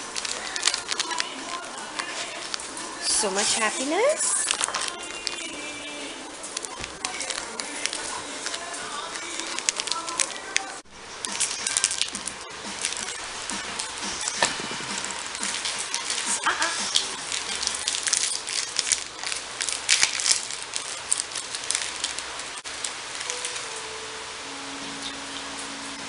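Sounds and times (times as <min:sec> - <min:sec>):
plastic wrapper crinkling: 0:00.0 - 0:24.2.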